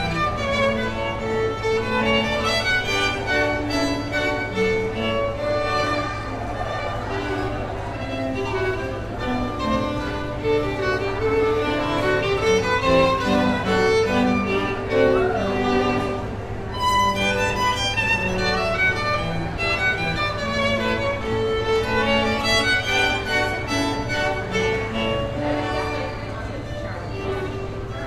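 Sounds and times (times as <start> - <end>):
lower strings: 0.0 - 28.0
violin melody: 0.0 - 28.0.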